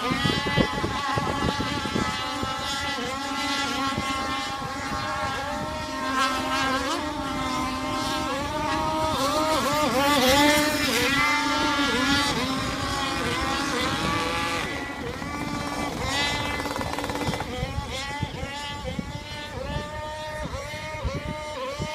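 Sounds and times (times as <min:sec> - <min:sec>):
model boat engine running at speed: 0:00.0 - 0:21.9.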